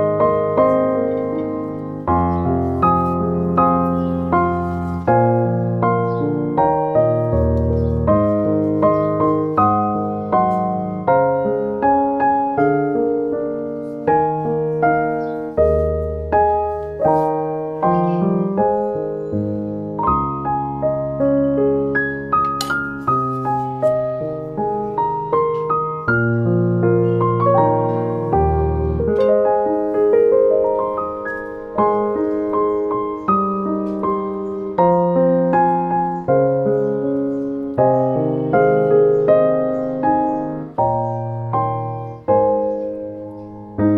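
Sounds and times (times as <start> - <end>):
gentle piano music: 0.0 - 43.9.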